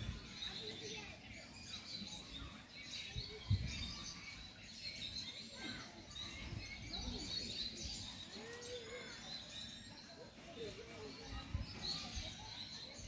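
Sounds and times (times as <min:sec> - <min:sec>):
outdoor background noise: 0:00.0 - 0:13.0
small birds chirping: 0:00.0 - 0:13.0.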